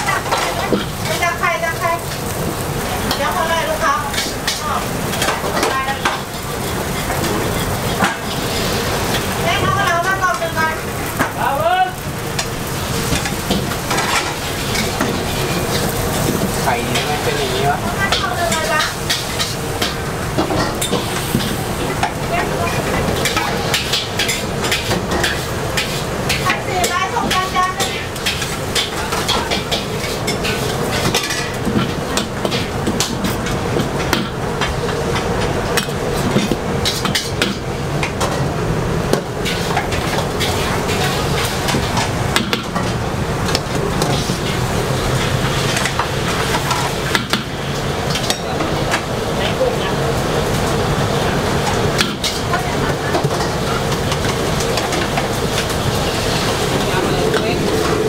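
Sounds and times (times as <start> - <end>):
kitchen noise roar: 0.0 - 58.0
noodles sizzling in a wok: 0.0 - 58.0.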